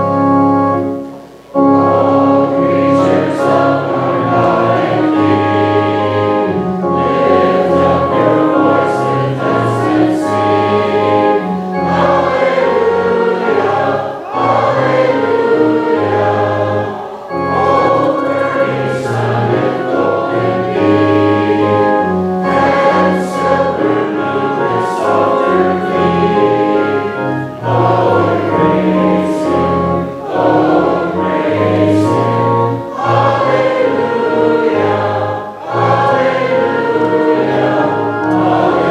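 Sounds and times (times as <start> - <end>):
congregation singing a hymn: 0.0 - 38.9.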